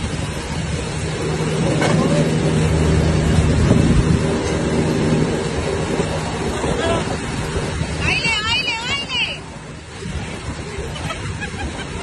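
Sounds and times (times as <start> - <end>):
drilling rig engine running: 0.0 - 12.0.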